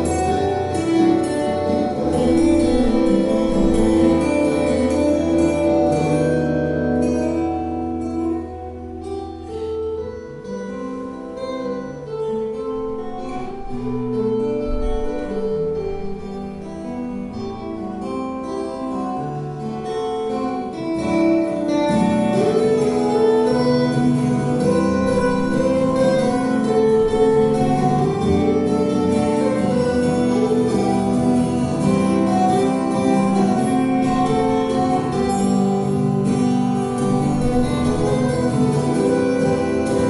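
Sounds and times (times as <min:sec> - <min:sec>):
acoustic guitar duet: 0:00.0 - 0:40.0.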